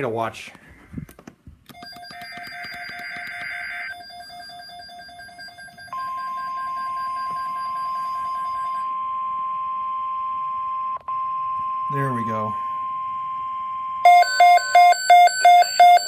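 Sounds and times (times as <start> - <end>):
steady warning alarm tone: 1.7 - 16.0.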